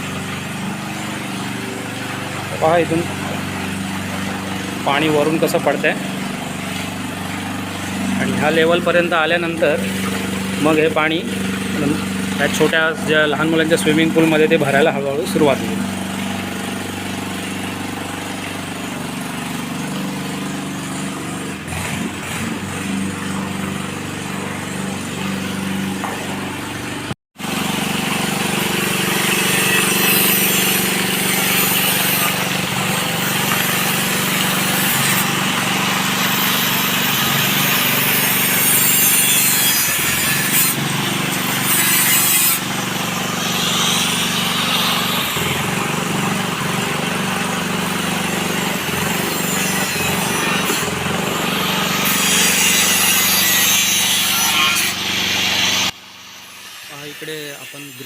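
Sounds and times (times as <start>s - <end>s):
water pump humming: 0.0s - 57.5s.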